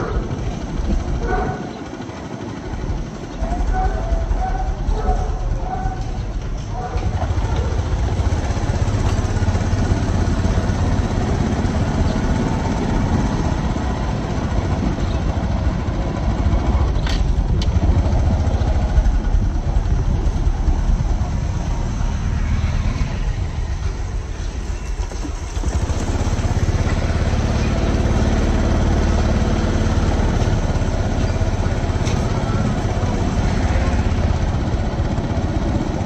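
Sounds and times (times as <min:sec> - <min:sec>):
road noise: 0:00.0 - 0:36.0
vehicle engine running: 0:00.0 - 0:36.0.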